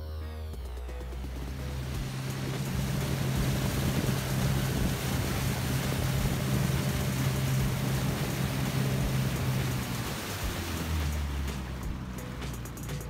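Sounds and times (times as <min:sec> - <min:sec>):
boat engine humming: 0:00.4 - 0:13.0
wind: 0:00.9 - 0:13.0
water washing: 0:01.2 - 0:13.0.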